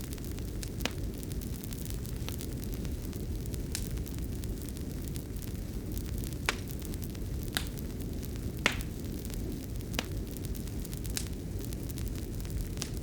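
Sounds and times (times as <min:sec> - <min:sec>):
fire crackling: 0:00.0 - 0:13.0
fireplace fire rumbling: 0:00.0 - 0:13.0
sharp pops of fire: 0:00.0 - 0:13.0.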